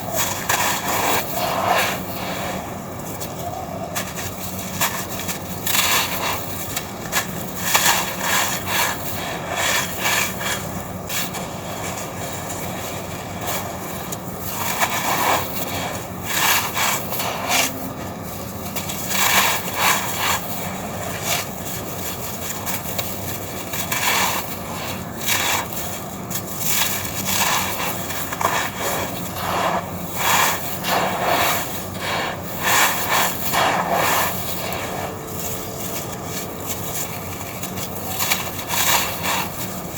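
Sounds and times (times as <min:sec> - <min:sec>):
cement chunks crunching: 0:02.9 - 0:39.9.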